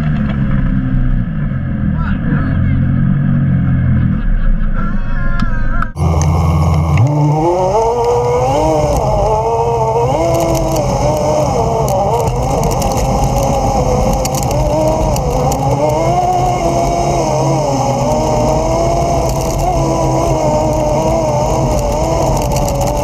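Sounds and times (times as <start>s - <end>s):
off-road vehicle engine revving: 0.0s - 4.9s, 5.8s - 23.0s.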